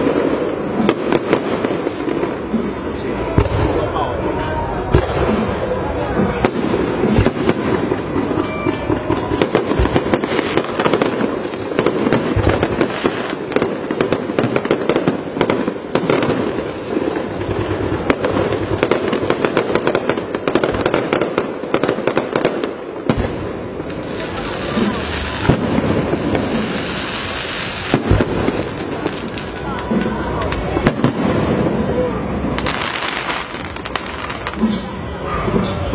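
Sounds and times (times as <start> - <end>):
fireworks rapid crackle: 0.0 - 35.9.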